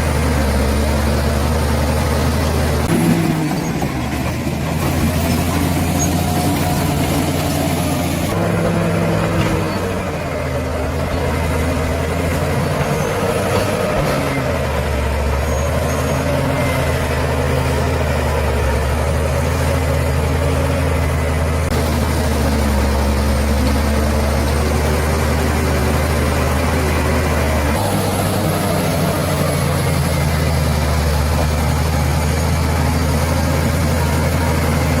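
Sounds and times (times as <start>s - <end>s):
bulldozer diesel engine droning: 0.0s - 35.0s.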